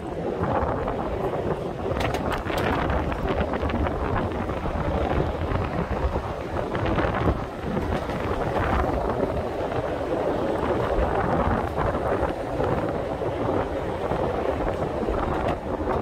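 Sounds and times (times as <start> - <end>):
tram running rumble: 0.0 - 16.0
wind buffeting microphone: 0.0 - 16.0.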